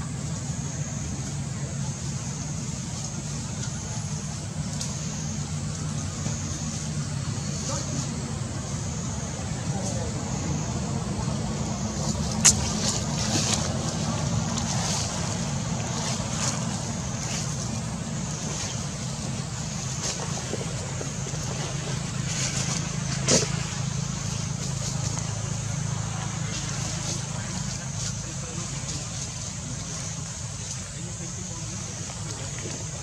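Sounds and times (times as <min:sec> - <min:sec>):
low rumble of traffic: 0:00.0 - 0:33.0.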